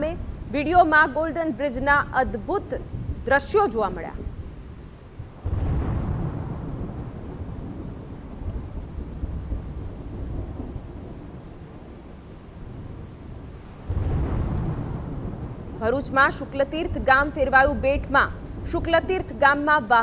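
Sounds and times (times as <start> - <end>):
steady rain: 0.0 - 20.0
thunderclap rumbling: 0.0 - 20.0.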